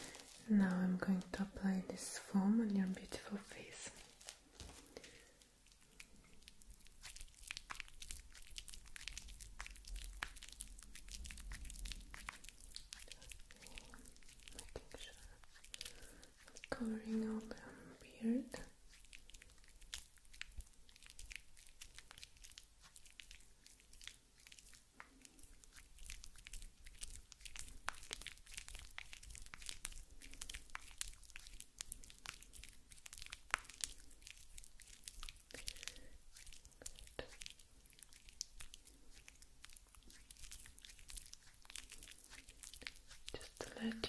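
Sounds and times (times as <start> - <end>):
shaving foam crackling: 0.0 - 5.3, 5.9 - 17.5, 18.3 - 44.0.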